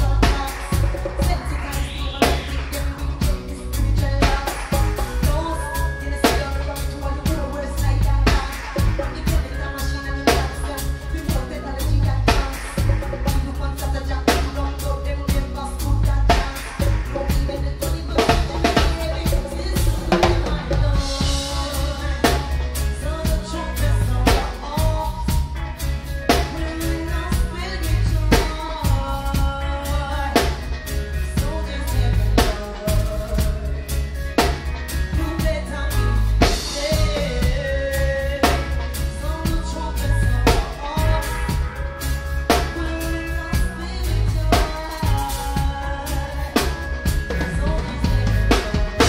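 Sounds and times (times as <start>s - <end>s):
heavy bass line: 0.0s - 49.0s
live reggae band: 0.0s - 49.0s.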